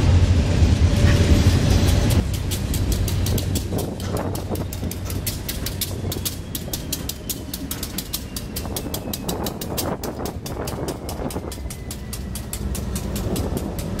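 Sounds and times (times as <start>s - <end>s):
freight cars rolling on steel wheels: 0.8s - 14.0s
fast even clicking of wheels: 1.7s - 14.0s.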